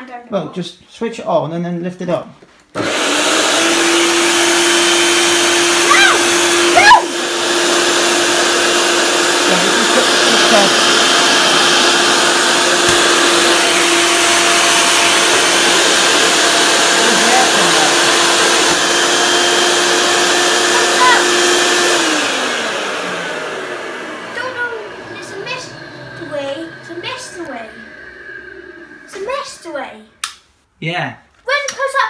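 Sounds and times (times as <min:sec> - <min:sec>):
vacuum cleaner running: 0:02.7 - 0:30.3.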